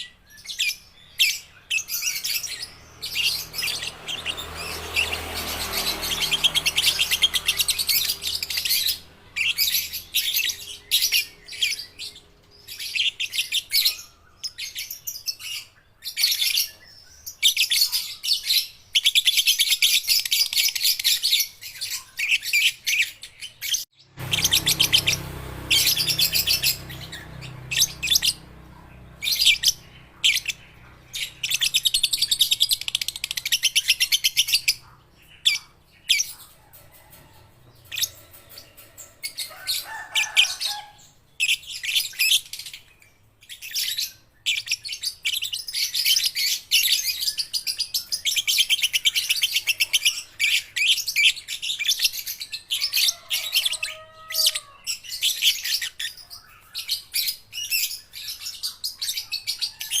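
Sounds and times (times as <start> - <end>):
lovebirds chirping: 0.0 - 60.0.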